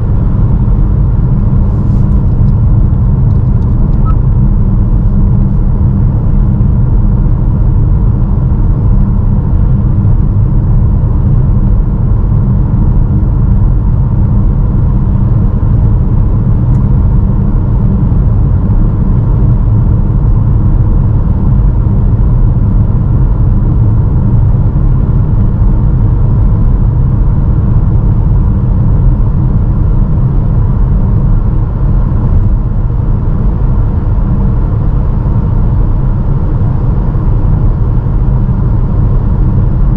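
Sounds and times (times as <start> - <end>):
car road rumble: 0.0 - 39.9
wind rush: 0.0 - 39.9.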